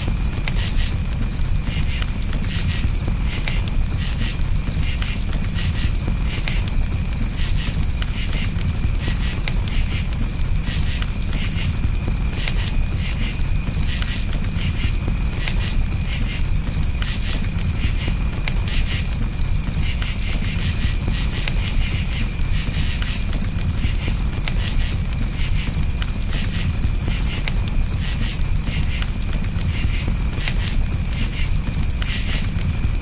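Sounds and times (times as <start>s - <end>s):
campfire crackling: 0.0s - 33.0s
crickets chirping: 0.0s - 33.0s.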